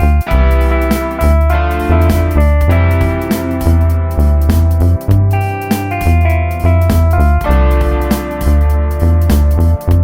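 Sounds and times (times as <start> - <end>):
steady drum beat: 0.0 - 9.9
heavy bass line: 0.0 - 10.0
sustained keyboard notes: 0.0 - 10.0.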